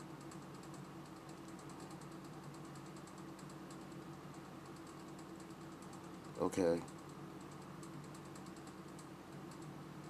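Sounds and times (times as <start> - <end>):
faint rapid clicking: 0.0 - 10.0
steady low hum: 0.0 - 10.0.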